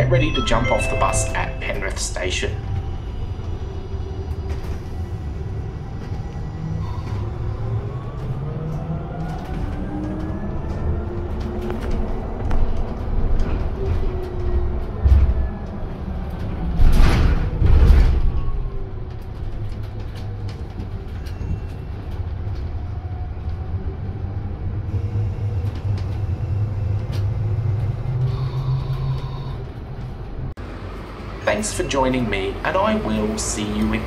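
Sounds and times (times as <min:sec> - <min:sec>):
low road rumble: 0:01.9 - 0:34.0.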